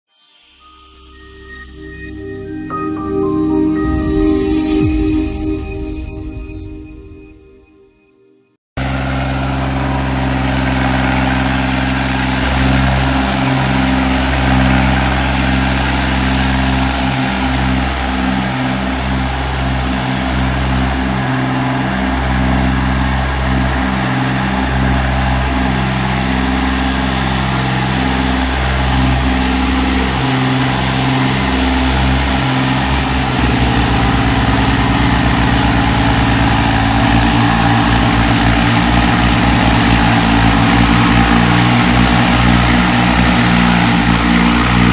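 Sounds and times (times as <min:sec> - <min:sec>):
diesel tractor engines running hard: 0:08.8 - 0:44.9.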